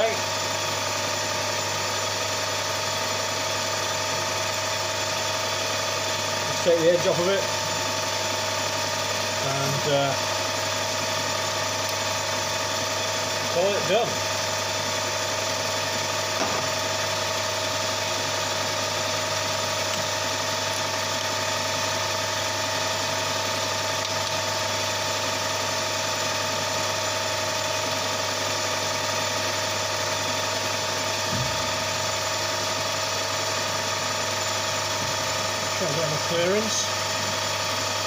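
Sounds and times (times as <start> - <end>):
metal lathe motor hum: 0.0 - 38.0.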